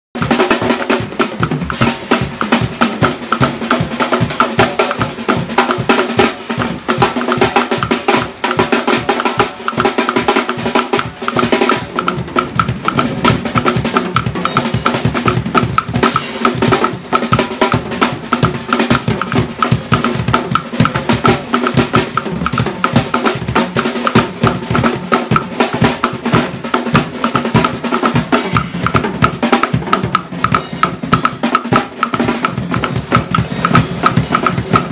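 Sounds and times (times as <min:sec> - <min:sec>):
acoustic drum kit played fast: 0:00.2 - 0:34.9.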